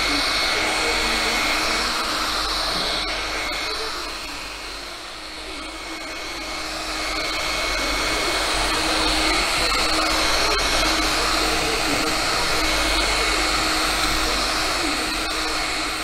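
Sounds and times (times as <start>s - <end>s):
electric polisher motor whine: 0.0s - 16.0s.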